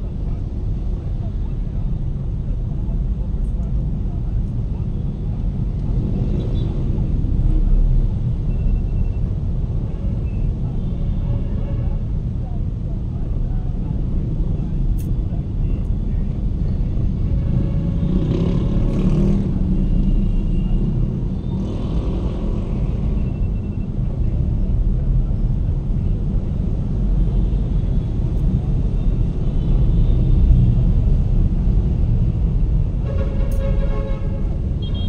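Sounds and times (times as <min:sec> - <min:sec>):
road noise: 0:00.0 - 0:35.0
surrounding traffic and motorcycles: 0:00.0 - 0:35.0.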